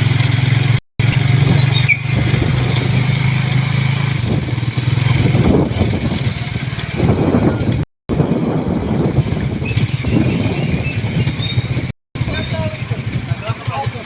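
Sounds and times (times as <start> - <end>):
road and wind noise: 0.0 - 14.0
vehicle engine hum: 0.0 - 14.0.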